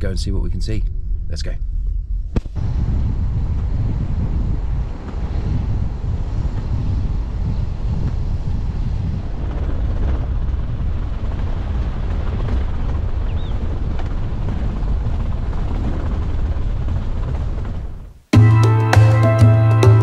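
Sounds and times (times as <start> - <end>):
wind buffeting microphone: 0.0 - 18.2
car engine and tyres rumbling: 0.0 - 18.3.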